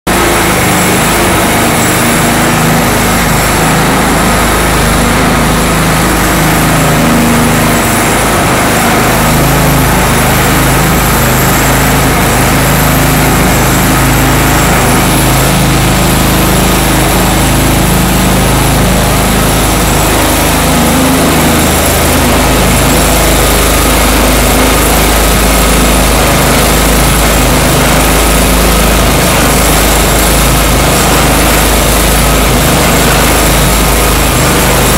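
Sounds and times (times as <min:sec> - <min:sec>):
floor grinder engine droning: 0:00.1 - 0:34.9
grinding heads on concrete: 0:00.1 - 0:34.9.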